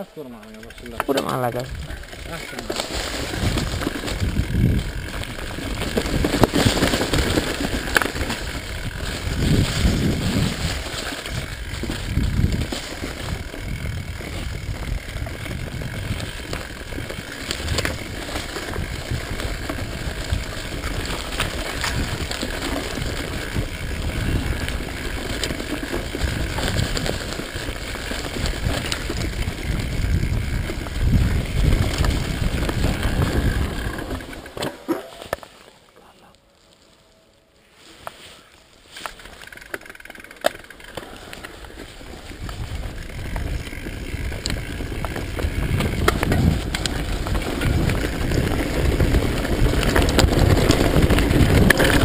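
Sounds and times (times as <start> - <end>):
bike rattling and knocking: 0.0 - 35.6, 39.0 - 52.0
bike tyres on dirt: 0.0 - 52.0.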